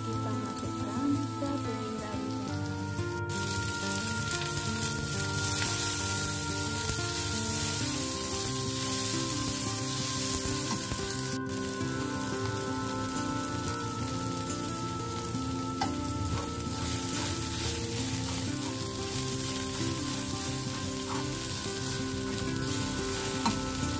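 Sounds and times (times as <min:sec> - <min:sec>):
background music with held notes: 0:00.0 - 0:23.9
food sizzling in hot oil: 0:00.0 - 0:23.9.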